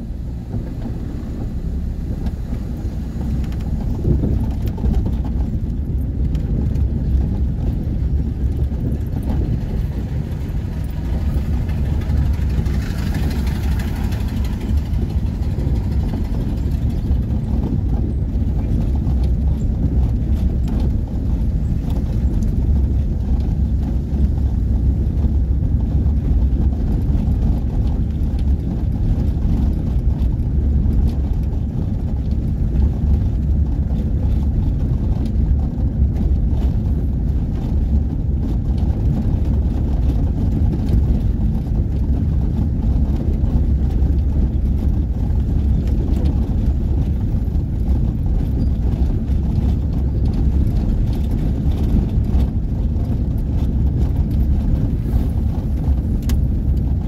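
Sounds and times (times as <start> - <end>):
vehicle driving over cobblestones: 0.0 - 57.0.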